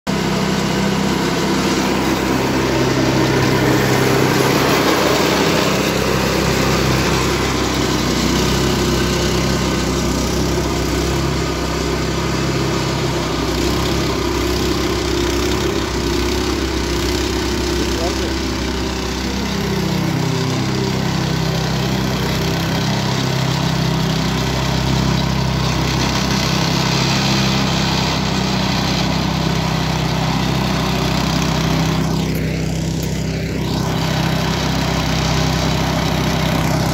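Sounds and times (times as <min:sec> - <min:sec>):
small gasoline engine running: 0:00.1 - 0:36.9
snow blower throwing snow: 0:00.1 - 0:36.9.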